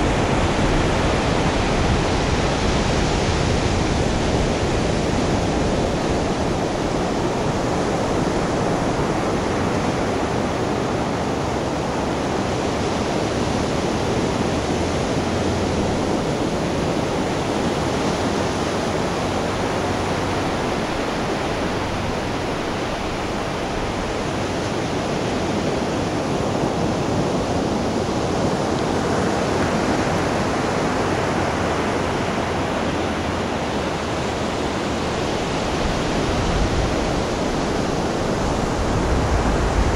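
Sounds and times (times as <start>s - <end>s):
surf rushing: 0.0s - 39.9s
wind: 0.0s - 39.9s.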